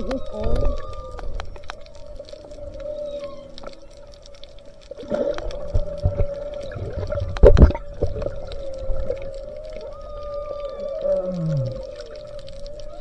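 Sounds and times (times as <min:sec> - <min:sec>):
whale song underwater: 0:00.0 - 0:13.0.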